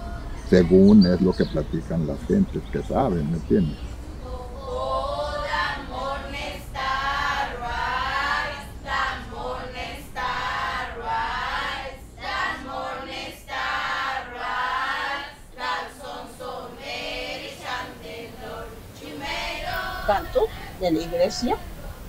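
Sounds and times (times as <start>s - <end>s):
group singing a cappella: 0.0s - 22.0s.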